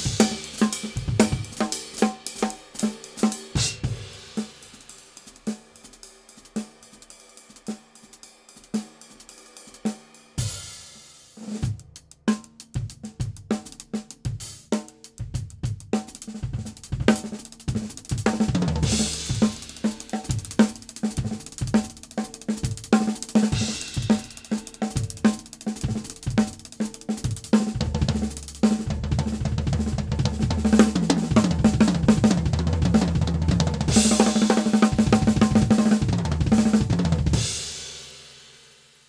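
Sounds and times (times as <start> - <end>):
fast kick drum strokes: 0.0 - 10.8, 11.4 - 38.4.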